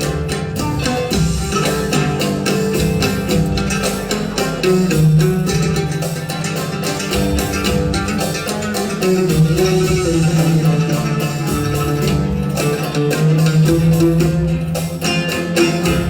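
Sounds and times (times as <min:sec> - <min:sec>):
oud playing: 0:00.0 - 0:16.0.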